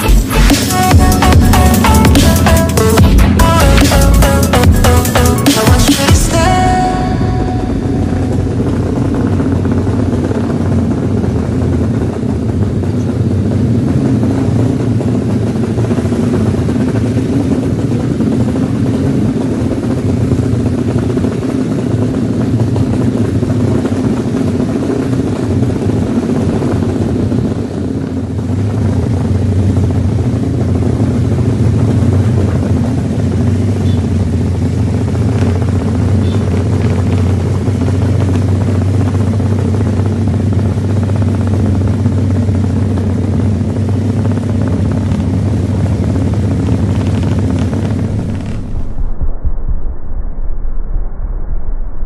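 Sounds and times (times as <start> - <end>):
motorcycle engines droning: 0.0 - 49.1.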